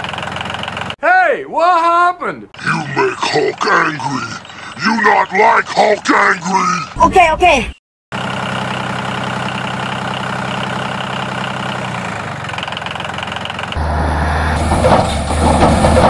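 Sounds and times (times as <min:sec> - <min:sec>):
excavator engine running: 0:00.0 - 0:01.0, 0:02.6 - 0:16.0.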